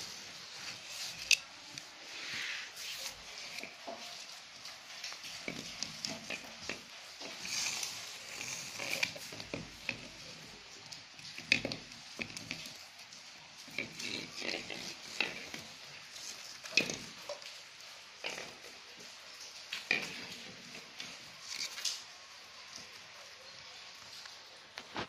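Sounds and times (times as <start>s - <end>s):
coconut scraping on tiled floor: 0.0s - 25.0s.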